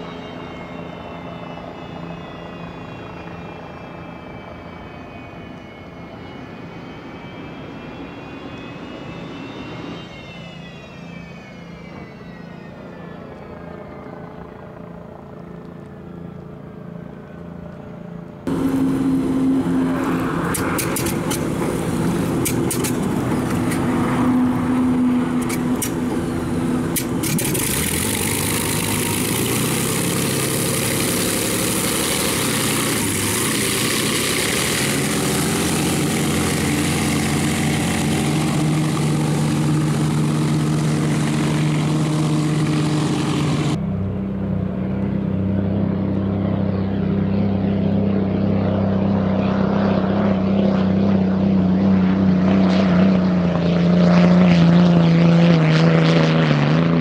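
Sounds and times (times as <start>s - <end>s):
turbine engine whine: 0.0s - 57.0s.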